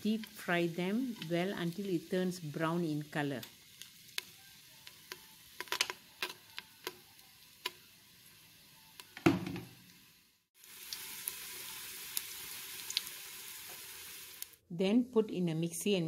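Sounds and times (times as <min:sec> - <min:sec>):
crackles and pops of frying: 0:00.0 - 0:14.6
food deep-frying in oil: 0:00.0 - 0:14.6.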